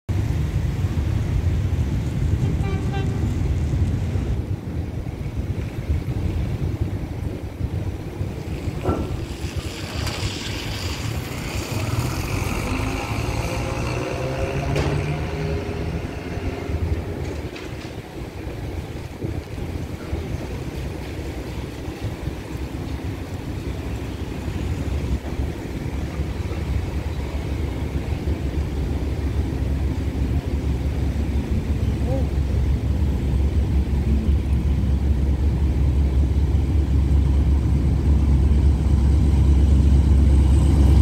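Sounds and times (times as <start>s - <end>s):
wind buffeting microphone: 0.1s - 41.0s.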